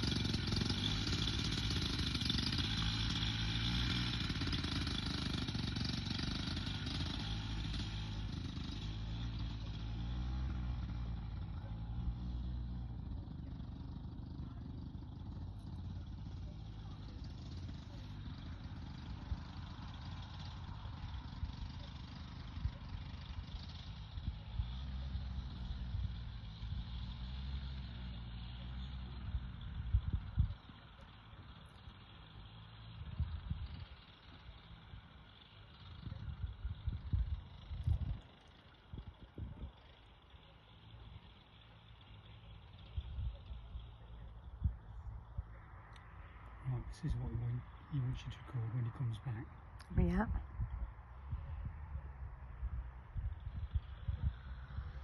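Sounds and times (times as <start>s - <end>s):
microlight engine running: 0.0s - 55.0s.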